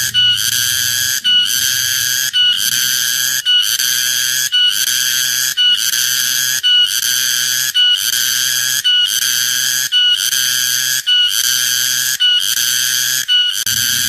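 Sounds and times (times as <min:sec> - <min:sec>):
cicada buzzing: 0:00.0 - 0:14.0.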